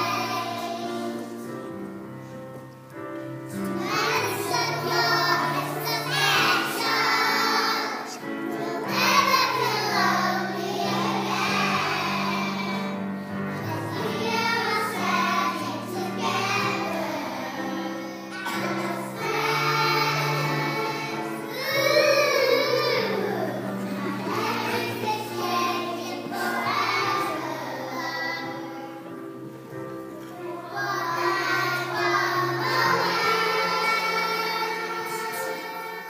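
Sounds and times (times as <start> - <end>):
children singing: 0.0 - 2.1, 3.5 - 29.6, 30.2 - 36.0.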